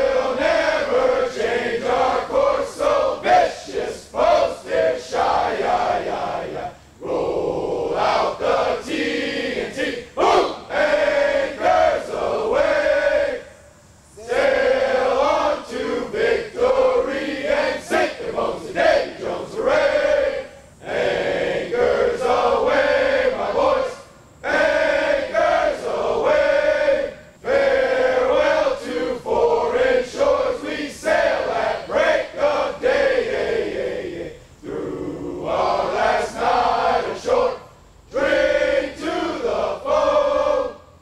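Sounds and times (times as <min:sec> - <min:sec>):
group of men singing: 0:00.0 - 0:13.5, 0:14.2 - 0:40.8.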